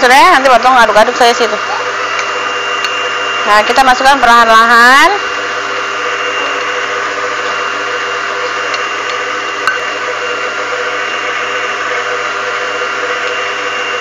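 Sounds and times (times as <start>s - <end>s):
electric mixer running: 0.0s - 14.0s.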